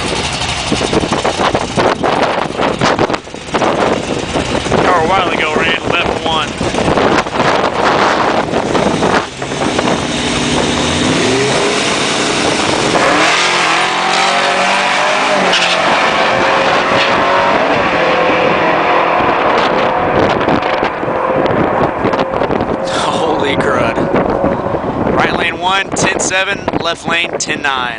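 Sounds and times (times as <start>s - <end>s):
drag racing cars accelerating: 0.0s - 27.4s.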